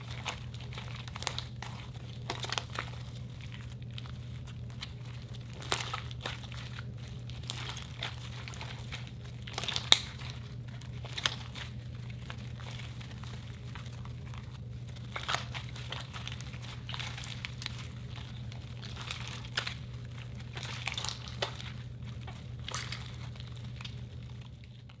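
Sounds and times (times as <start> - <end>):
slime crackling and popping: 0.0 - 25.0
steady low hum: 0.0 - 25.0.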